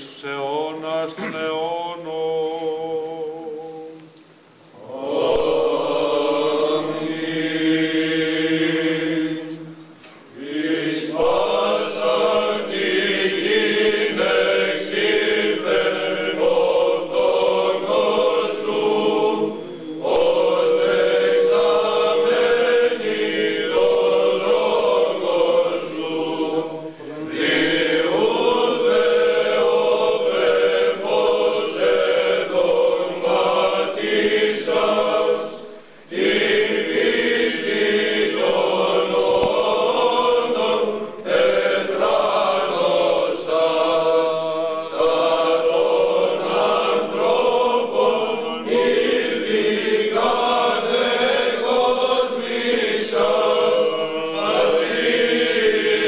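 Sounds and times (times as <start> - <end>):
voices chanting: 4.8 - 56.0.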